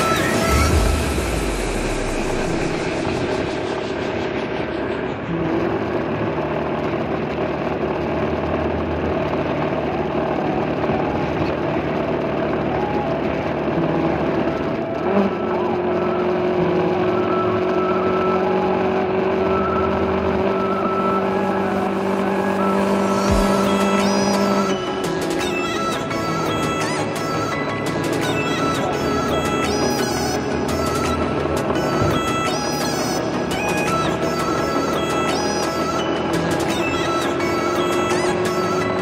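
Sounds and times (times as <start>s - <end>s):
motorcycle engine cruising: 0.0s - 39.0s
wind and road noise: 0.0s - 39.0s.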